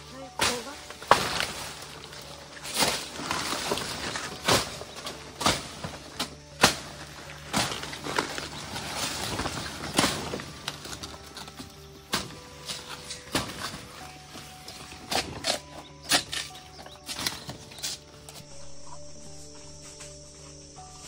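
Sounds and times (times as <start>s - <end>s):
footsteps on forest ground: 0.0s - 21.0s.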